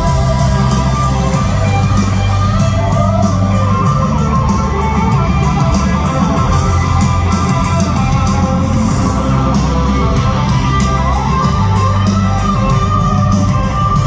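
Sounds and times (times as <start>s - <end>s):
bass guitar: 0.0s - 14.0s
drums: 0.0s - 14.0s
electric guitars: 0.0s - 14.0s.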